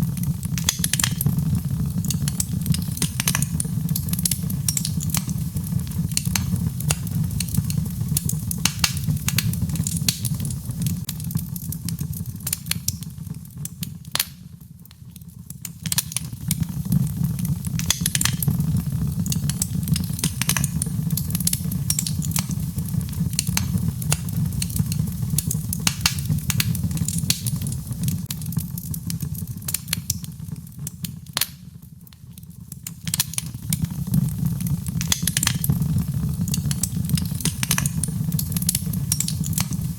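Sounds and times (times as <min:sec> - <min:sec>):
fire low rumble: 0:00.0 - 0:31.1, 0:31.8 - 0:39.9
logs crackling in fireplace: 0:00.0 - 0:39.9.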